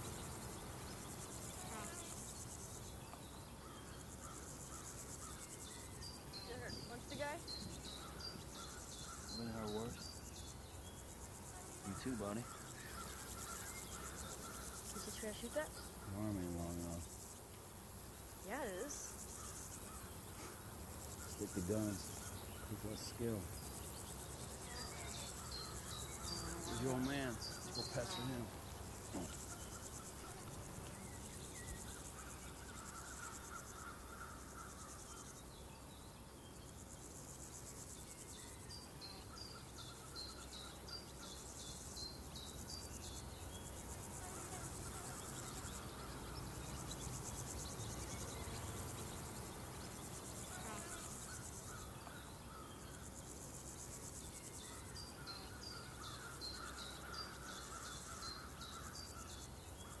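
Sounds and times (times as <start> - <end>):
insects chirping: 0.0 - 60.0.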